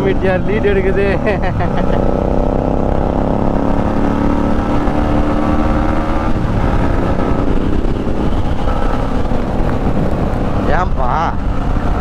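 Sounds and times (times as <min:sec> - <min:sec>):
motorcycle engine tone: 0:00.0 - 0:12.0.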